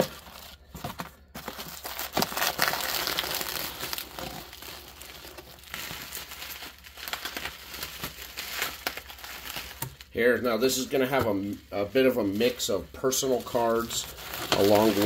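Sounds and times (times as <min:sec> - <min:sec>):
bubble wrap crackling: 0:00.0 - 0:15.0.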